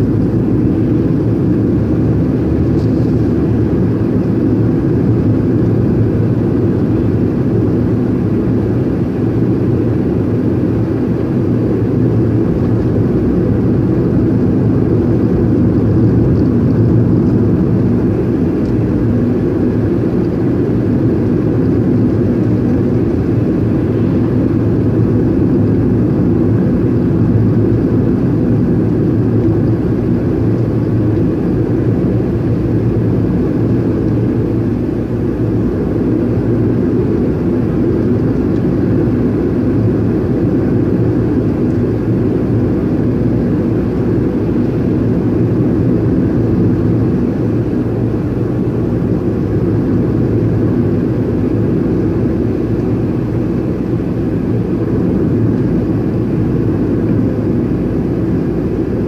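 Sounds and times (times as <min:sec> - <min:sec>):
car interior engine and road rumble: 0:00.0 - 0:59.0.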